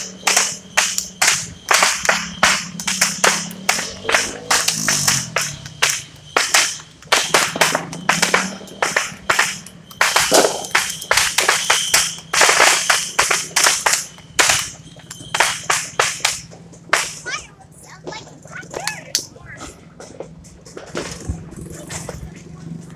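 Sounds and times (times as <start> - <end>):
firecrackers banging: 0.0 - 22.9.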